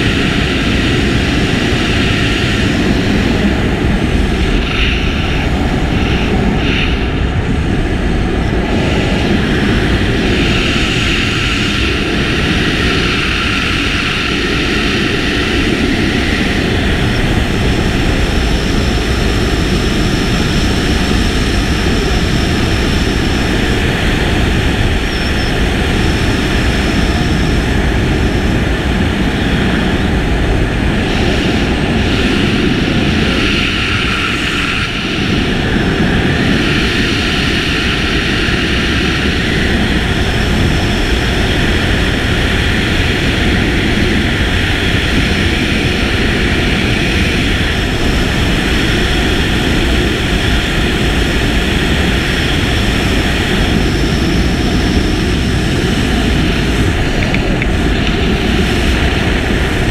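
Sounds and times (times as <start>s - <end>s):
rushing air roaring on microphone: 0.0s - 59.9s.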